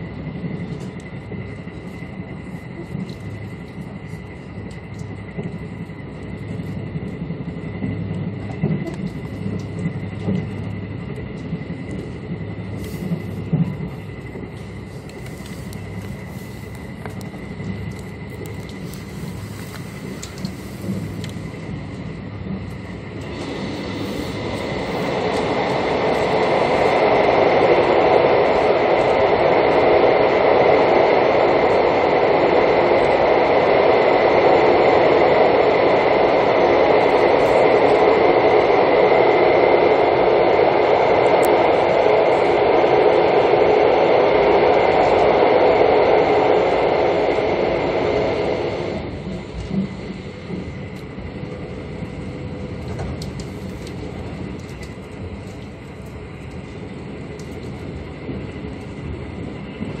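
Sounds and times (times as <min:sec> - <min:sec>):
train running noise inside carriage: 0:00.0 - 1:00.0.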